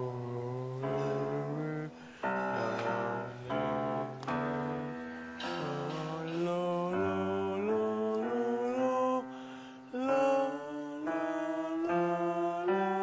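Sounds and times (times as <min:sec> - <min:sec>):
digital piano accompaniment: 0:00.0 - 0:13.0
man singing held notes: 0:00.0 - 0:13.0.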